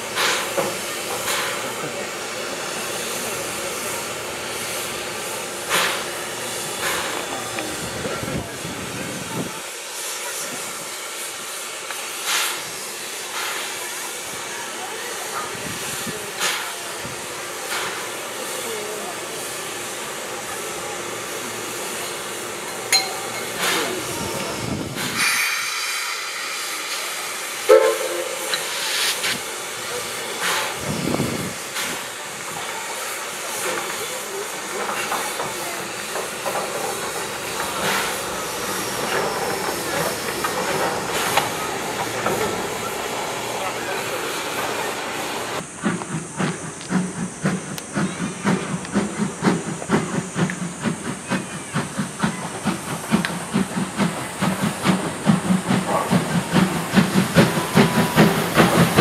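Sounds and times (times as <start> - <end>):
steam bursts: 0.0 - 59.0
steam locomotive hissing: 0.0 - 59.0.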